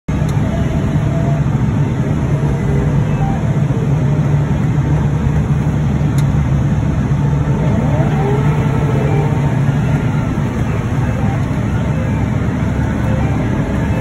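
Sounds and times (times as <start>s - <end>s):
harvester engine drone: 0.1s - 14.0s.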